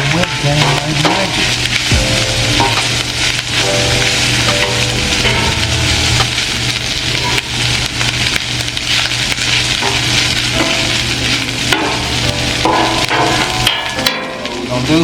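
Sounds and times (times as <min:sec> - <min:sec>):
spatula scraping hot steel: 0:00.0 - 0:14.6
rice sizzling on a griddle: 0:00.0 - 0:15.0.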